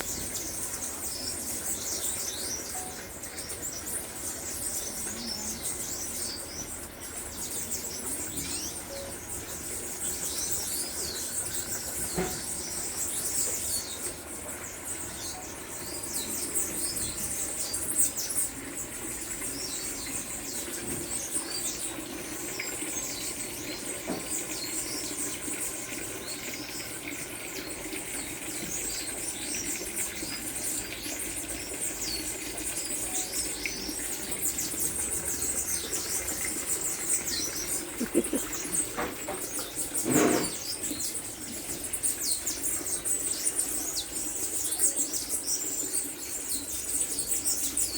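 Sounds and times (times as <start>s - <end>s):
many birds chirping: 0.0s - 47.9s.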